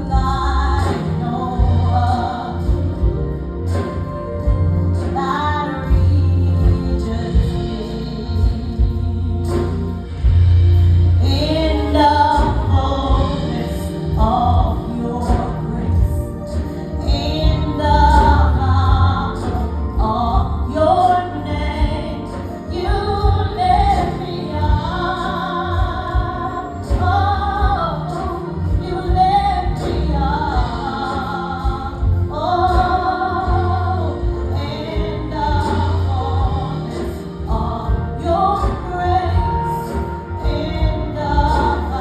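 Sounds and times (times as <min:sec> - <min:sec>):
accompaniment with deep bass: 0:00.0 - 0:42.0
person singing with vibrato: 0:00.0 - 0:42.0.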